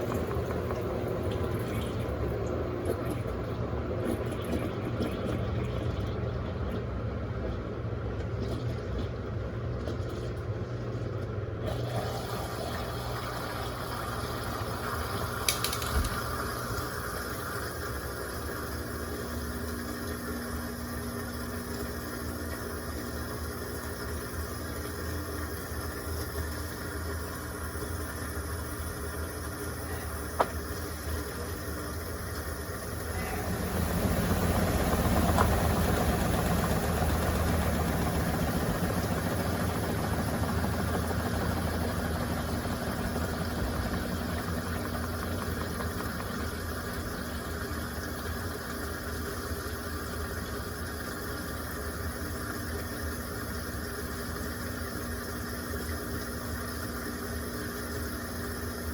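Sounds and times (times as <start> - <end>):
washing machine motor hum: 0.0 - 58.9.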